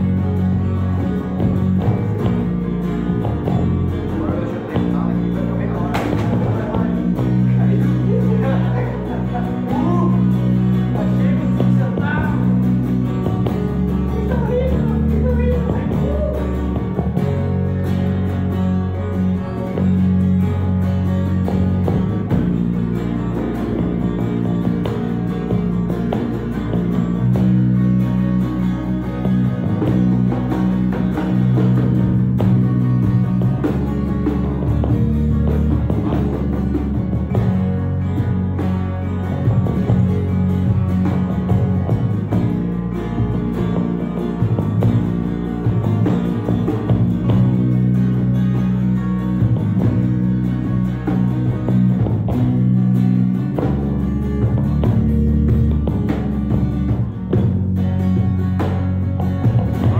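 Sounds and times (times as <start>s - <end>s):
bass line: 0.0s - 59.9s
drums: 0.0s - 59.9s
lead guitar solo: 0.0s - 59.9s.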